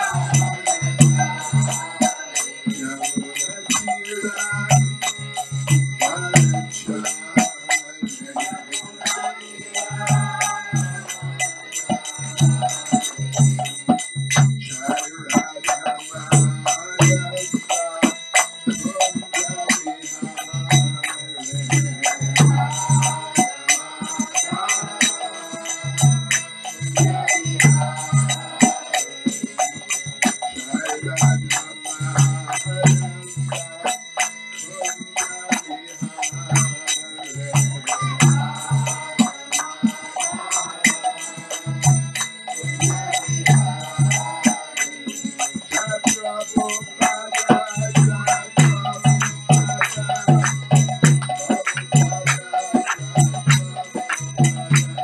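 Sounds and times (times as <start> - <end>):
hand cymbals ringing: 0.0 - 55.0
man chanting: 0.0 - 55.0.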